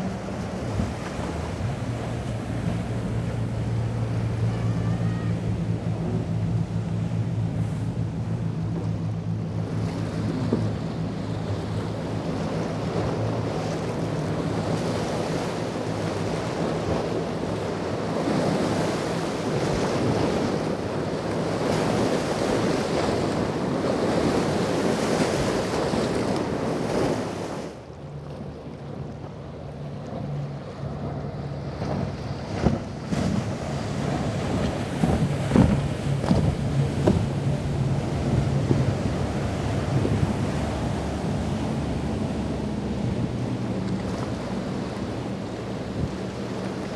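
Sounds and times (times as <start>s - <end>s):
spray and waves rushing: 0.0s - 27.9s, 29.6s - 46.9s
boat engines droning: 0.0s - 46.9s.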